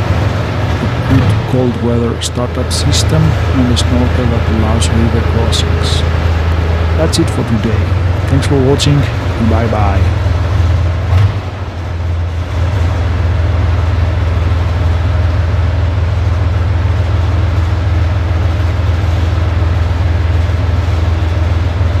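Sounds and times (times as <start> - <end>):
tank diesel engine idling: 0.0 - 22.0.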